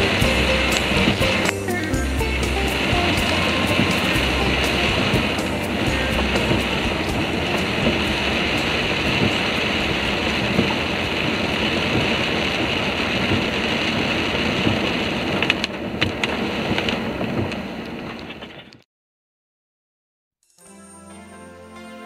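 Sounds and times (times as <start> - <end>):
tyres on wet road: 0.0 - 18.3
rain: 0.0 - 18.5.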